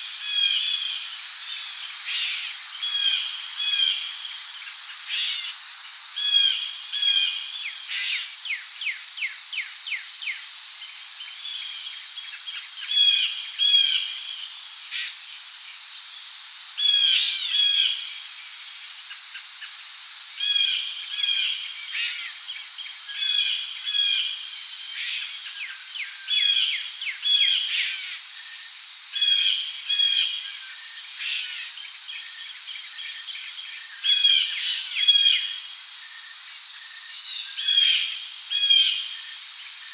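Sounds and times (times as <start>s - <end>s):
crickets droning: 0.0s - 39.9s.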